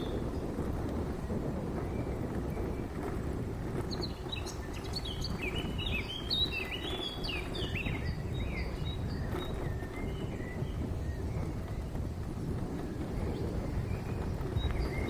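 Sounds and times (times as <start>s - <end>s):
small birds chirping: 1.8s - 15.0s.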